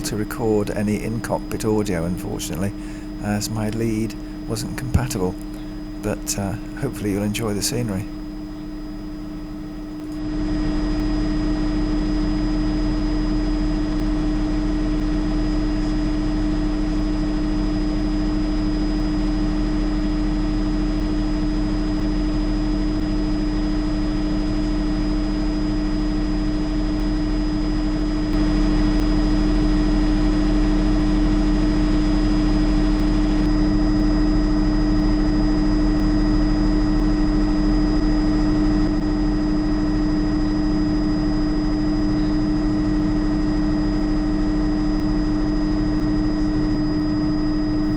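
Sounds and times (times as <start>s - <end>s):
helicopter engine drone: 0.0s - 47.9s
turbine whine: 0.0s - 47.9s.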